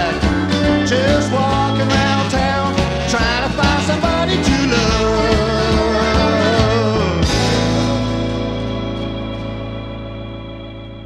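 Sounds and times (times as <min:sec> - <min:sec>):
country folk instrumental music: 0:00.0 - 0:11.0.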